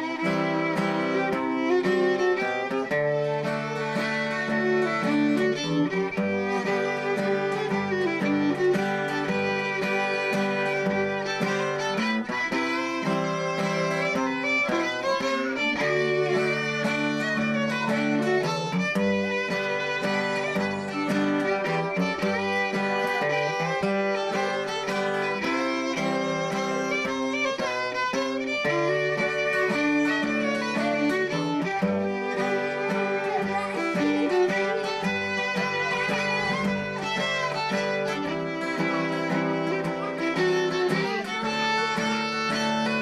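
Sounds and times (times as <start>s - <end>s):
acoustic guitar accompaniment: 0.0s - 43.0s
fiddle playing waltz melody: 0.0s - 43.0s.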